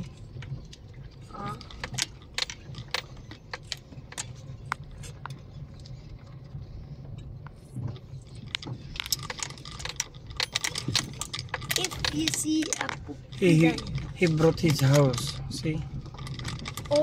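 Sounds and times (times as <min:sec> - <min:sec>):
car engine and tyres rumbling: 0:00.0 - 0:17.0
small clicks and rattles: 0:00.0 - 0:17.0.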